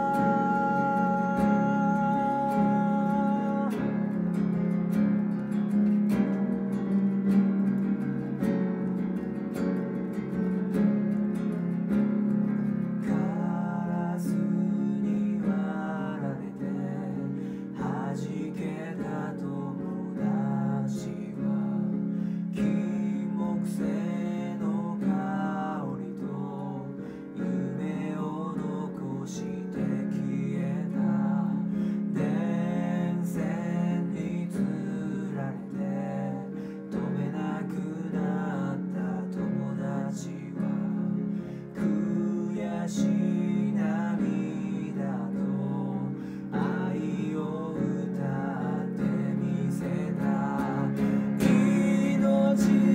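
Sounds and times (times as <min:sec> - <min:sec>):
man singing: 0:00.0 - 0:04.5, 0:13.0 - 0:52.9
strummed acoustic guitar: 0:00.0 - 0:52.9.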